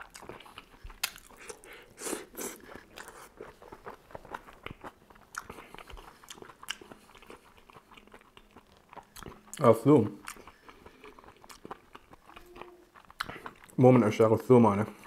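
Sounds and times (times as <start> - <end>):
biting and chewing food: 0.0 - 15.0.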